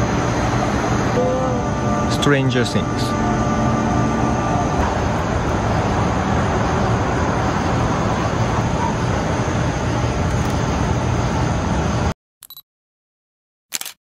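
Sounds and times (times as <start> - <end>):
loud rushing outdoor noise: 0.0 - 12.1.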